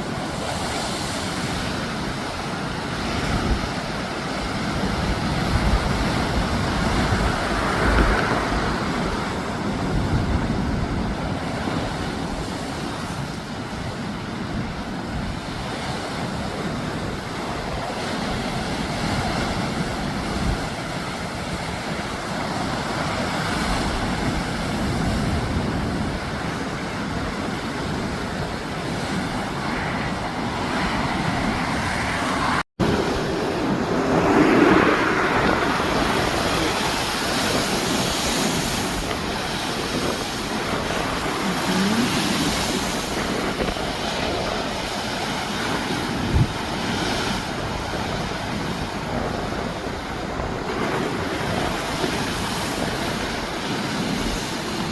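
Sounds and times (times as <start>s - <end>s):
sea surf breaking: 0.0s - 54.9s
wind buffeting microphone: 0.0s - 54.9s.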